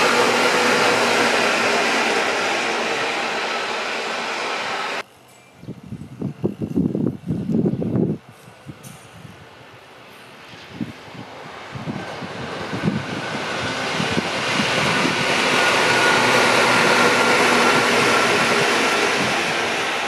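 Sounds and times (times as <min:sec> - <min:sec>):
train passing: 0:00.0 - 0:05.4, 0:08.5 - 0:20.0.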